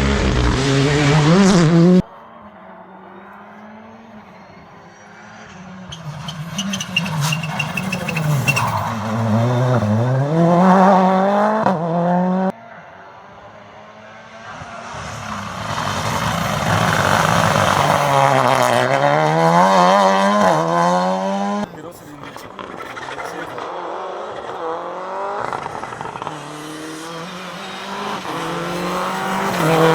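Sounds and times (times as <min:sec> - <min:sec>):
rally car engine accelerating: 0:00.0 - 0:29.9.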